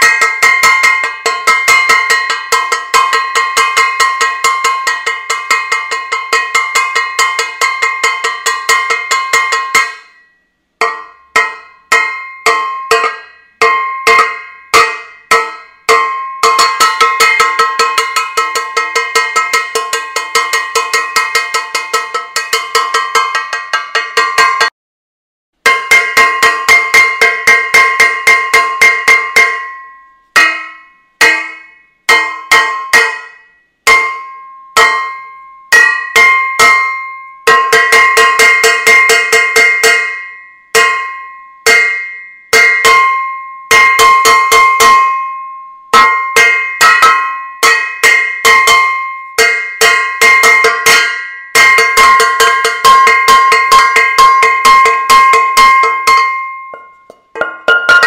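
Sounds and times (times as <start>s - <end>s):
metal saucepan being banged: 0.0s - 10.2s, 10.8s - 24.7s, 25.6s - 58.0s.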